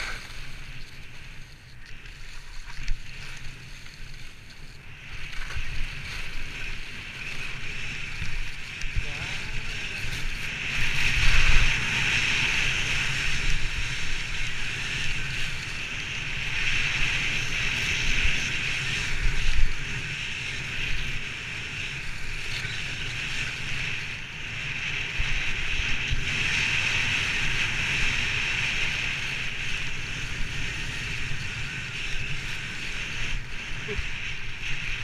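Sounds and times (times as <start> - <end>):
skis scraping over snow: 0.0 - 35.0
wind rumble on microphone: 0.0 - 35.0.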